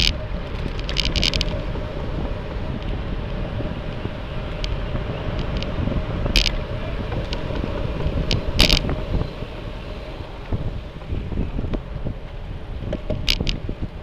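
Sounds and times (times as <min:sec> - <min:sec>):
low rumble of road noise: 0:00.0 - 0:14.0
wind buffeting microphone: 0:00.0 - 0:14.0.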